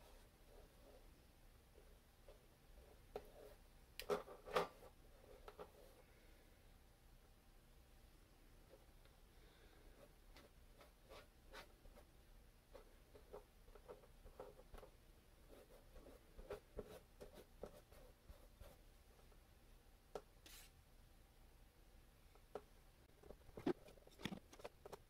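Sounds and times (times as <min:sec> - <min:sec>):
soft hiss: 0:00.0 - 0:24.2.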